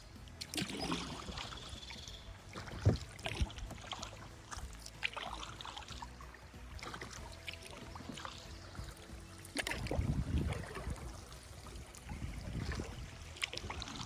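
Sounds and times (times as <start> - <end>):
paddle strokes splashing in water: 0.0 - 14.0.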